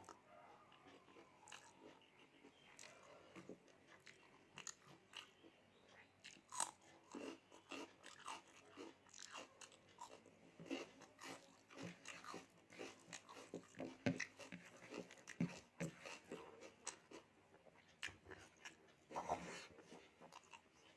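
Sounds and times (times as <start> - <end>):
wet chewing and lip smacks: 0.0 - 20.9.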